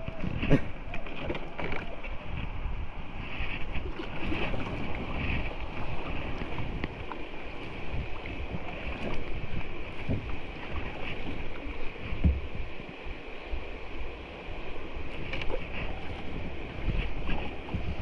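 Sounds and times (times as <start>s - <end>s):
water rushing around kayak: 0.0s - 18.0s
wind buffeting microphone: 0.0s - 18.0s.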